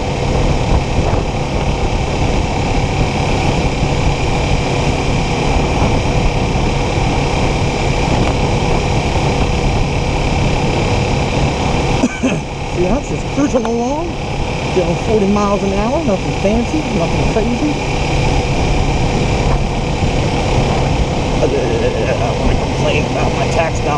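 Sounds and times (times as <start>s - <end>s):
motorcycle engine drone: 0.0s - 23.9s
road noise: 0.0s - 23.9s
rushing wind: 0.0s - 23.9s.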